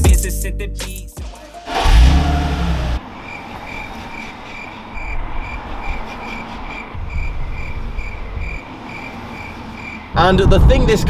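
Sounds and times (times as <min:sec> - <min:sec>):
car engine and exhaust rumbling: 0:01.7 - 0:11.0.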